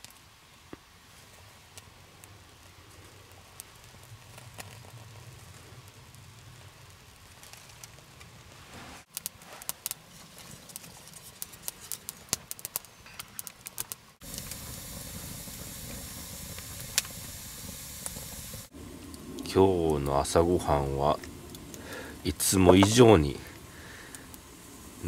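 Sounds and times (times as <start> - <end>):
steady hiss: 0.0 - 25.0
wood fire crackling: 0.0 - 25.0.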